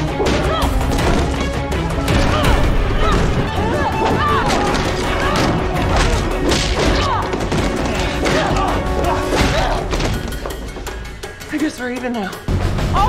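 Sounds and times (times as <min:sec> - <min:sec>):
action music: 0:00.0 - 0:13.0.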